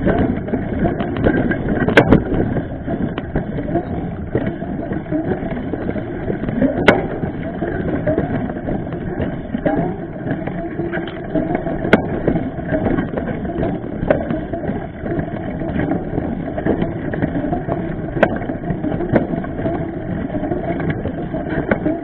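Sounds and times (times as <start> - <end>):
bike tyre and frame rattling: 0.0 - 22.0
sharp clacks from bumps: 0.0 - 22.0.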